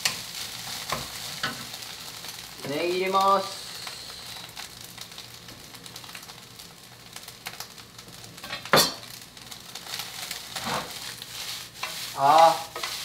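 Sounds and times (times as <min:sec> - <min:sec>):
rice sizzling in frying pan: 0:00.0 - 0:13.0.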